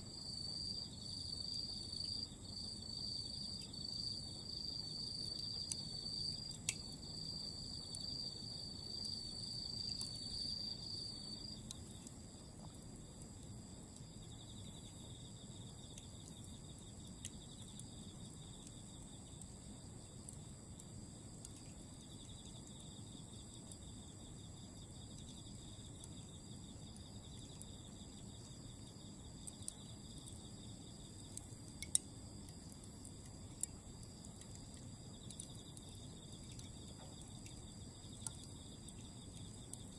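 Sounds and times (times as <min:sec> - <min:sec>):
insects trilling: 0:00.0 - 0:39.9
charcoal embers crackling: 0:02.2 - 0:10.4, 0:11.5 - 0:39.9.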